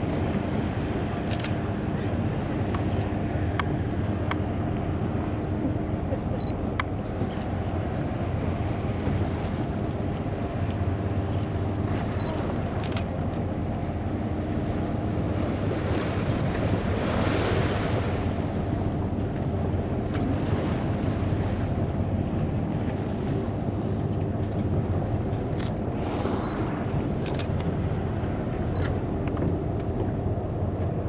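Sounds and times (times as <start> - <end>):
boat engine idling: 0.0 - 17.2, 18.0 - 31.0
water lapping against hull: 0.0 - 31.0
wind: 0.0 - 31.0.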